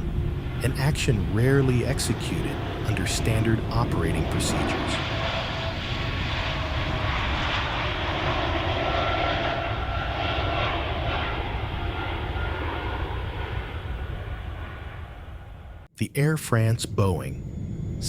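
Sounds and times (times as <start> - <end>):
jet engines at high power: 0.0 - 15.9, 16.6 - 18.0.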